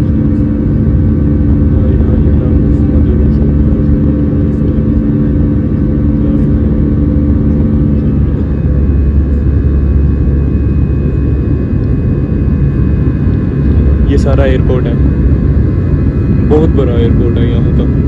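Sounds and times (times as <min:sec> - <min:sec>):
humming tone: 0:00.0 - 0:18.0
jet engines rumbling in cabin: 0:00.0 - 0:18.0.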